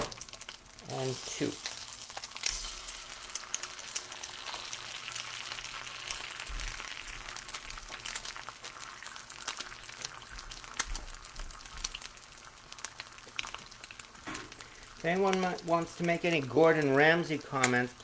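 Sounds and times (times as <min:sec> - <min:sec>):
eggs sizzling in a pan: 0:00.0 - 0:18.0.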